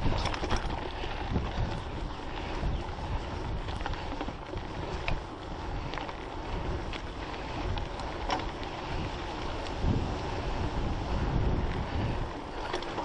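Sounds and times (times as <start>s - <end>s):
bike tyres rumbling on dirt: 0.0s - 13.0s
sharp bike rattles: 0.0s - 13.0s
wind noise on microphone: 0.0s - 13.0s.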